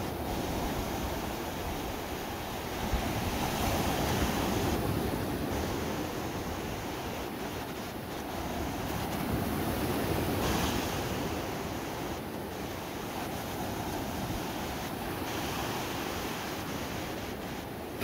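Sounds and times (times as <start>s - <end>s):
waves washing over sand: 0.0s - 18.0s.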